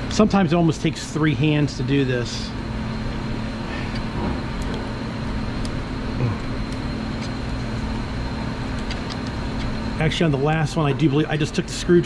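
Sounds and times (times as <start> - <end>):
machine drone with low hum: 0.0 - 12.0.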